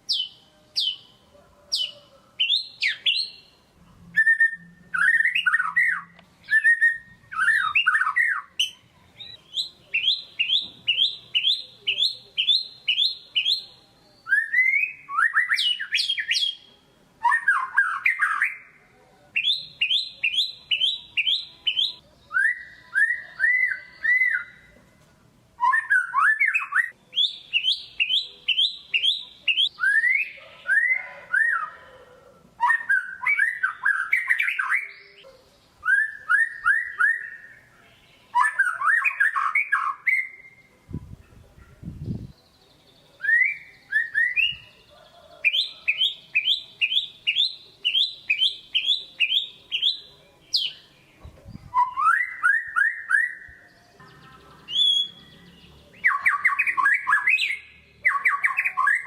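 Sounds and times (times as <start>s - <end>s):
songbird singing whistled song: 0.0s - 18.8s, 19.4s - 24.8s, 25.6s - 31.9s, 32.6s - 59.0s.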